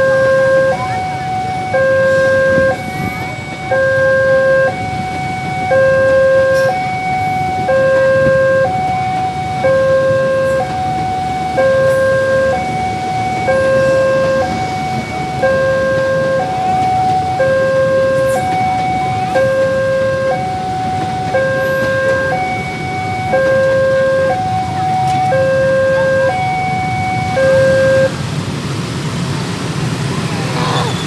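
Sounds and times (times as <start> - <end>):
level crossing alarm two tones: 0.0 - 28.2.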